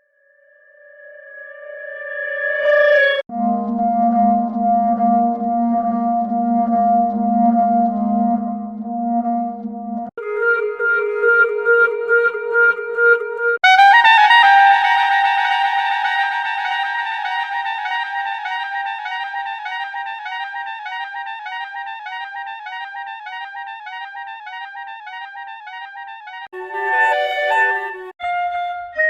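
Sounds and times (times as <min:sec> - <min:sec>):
clarinet trill: 0:03.3 - 0:29.0.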